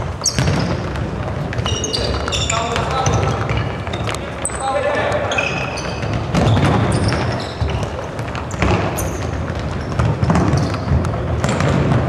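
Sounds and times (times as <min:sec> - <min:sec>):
ball kicked and bouncing: 0:00.0 - 0:12.0
shoes squeaking on floor: 0:00.0 - 0:12.0.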